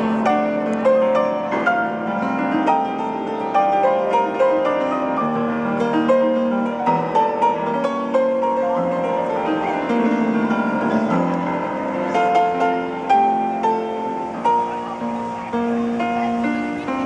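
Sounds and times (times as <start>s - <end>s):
piano-like instrumental melody: 0.0s - 17.0s.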